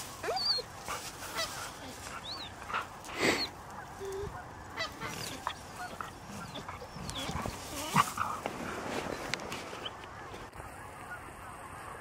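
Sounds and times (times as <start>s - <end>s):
geese honking: 0.1s - 12.0s.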